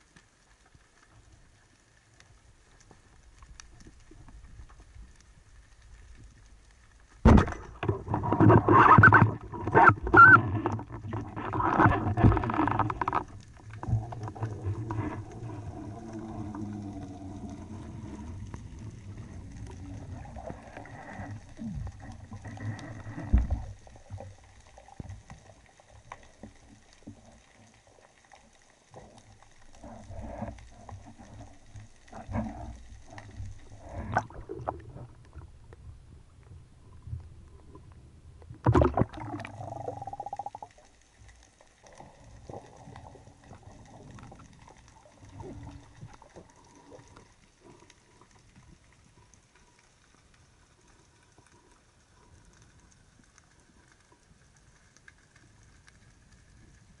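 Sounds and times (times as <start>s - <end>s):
water splashes: 0.0s - 37.8s, 38.4s - 57.0s
underwater rumbling and creaking: 0.0s - 57.0s
underwater knocking and scraping: 0.1s - 57.0s.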